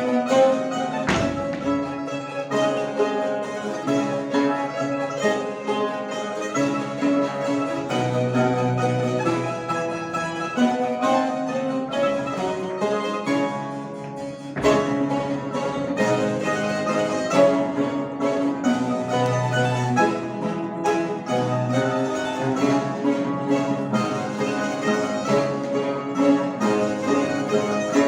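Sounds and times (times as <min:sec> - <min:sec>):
mandolin ensemble playing: 0:00.0 - 0:28.0.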